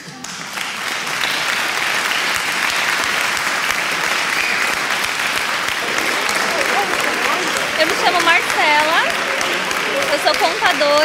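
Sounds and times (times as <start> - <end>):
group of people applauding: 0.0 - 11.0.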